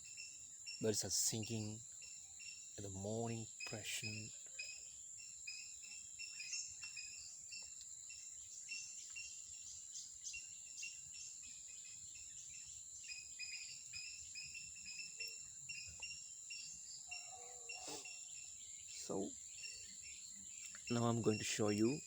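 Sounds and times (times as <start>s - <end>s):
birds chirping: 0.0s - 22.0s
insect drone: 0.0s - 22.0s.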